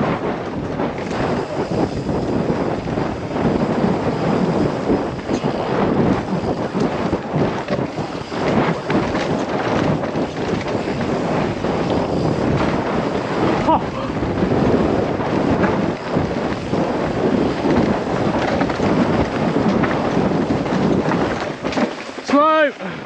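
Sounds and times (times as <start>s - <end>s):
bike rattle: 0.0s - 23.0s
bike tyre rumble: 0.0s - 23.0s
wind buffeting microphone: 0.0s - 23.0s.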